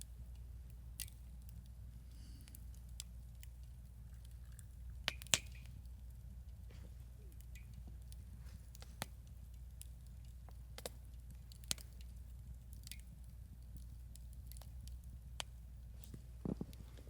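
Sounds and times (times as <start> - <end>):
campfire crackling and popping: 0.0 - 17.0
low steady rumble: 0.0 - 17.0.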